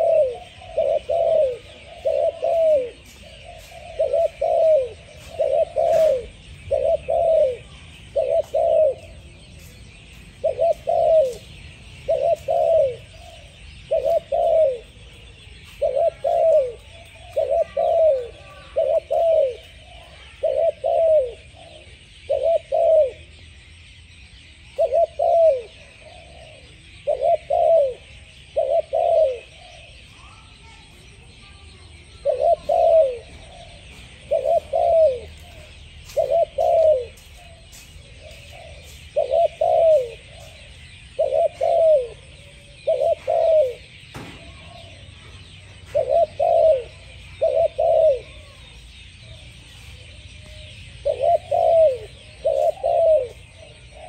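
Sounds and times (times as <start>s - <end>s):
dove cooing: 0.0s - 23.4s, 24.7s - 54.0s.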